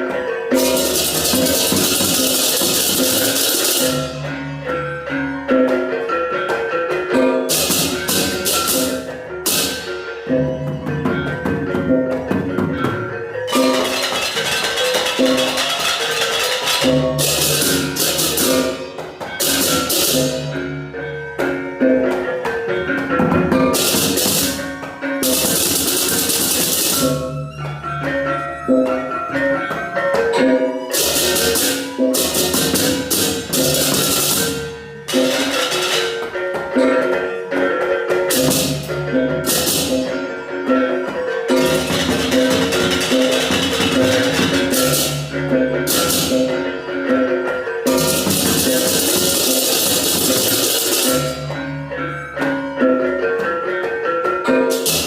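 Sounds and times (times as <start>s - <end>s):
drums: 0.0s - 27.4s, 28.1s - 51.8s, 52.4s - 55.0s.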